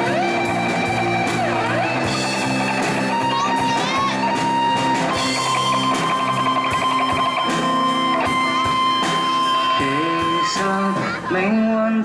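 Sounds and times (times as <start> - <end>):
lead guitar holding long note: 0.0 - 11.5
band playing pop-rock: 0.0 - 12.0.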